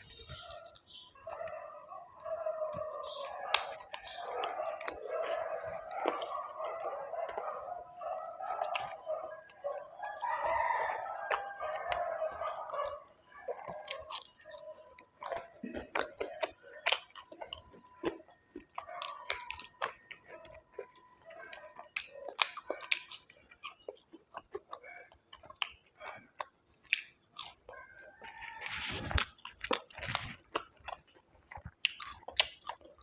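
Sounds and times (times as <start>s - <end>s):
mouth clicks and smacks: 2.7s - 7.4s, 8.0s - 10.3s, 13.5s - 33.0s
person chewing and biting: 3.0s - 12.8s, 13.5s - 33.0s.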